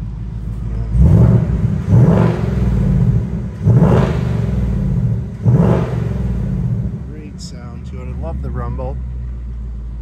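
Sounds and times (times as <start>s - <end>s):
car engine revving: 0.4s - 10.0s.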